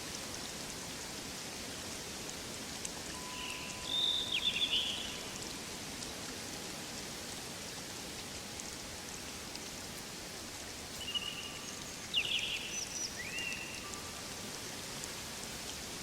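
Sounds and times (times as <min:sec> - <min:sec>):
rain-like pattering hiss: 0:00.0 - 0:16.0.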